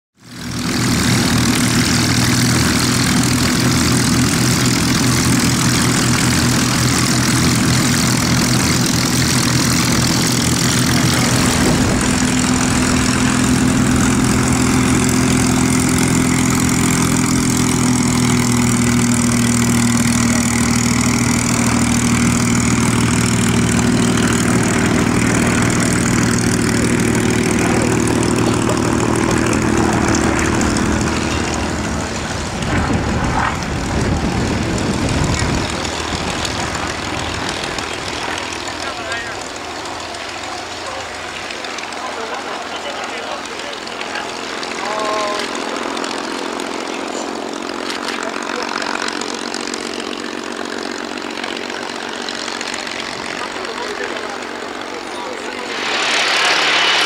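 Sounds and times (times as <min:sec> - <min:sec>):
propeller aircraft engine idling: 0:00.2 - 0:57.0.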